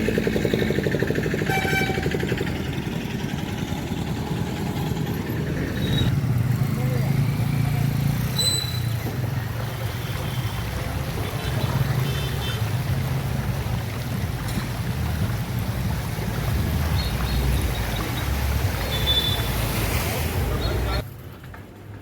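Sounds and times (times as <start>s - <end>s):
even wash of noise: 0.0s - 21.2s.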